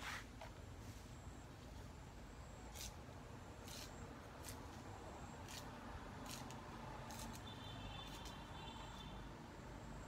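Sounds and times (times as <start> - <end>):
faint steady background noise: 0.0 - 10.0.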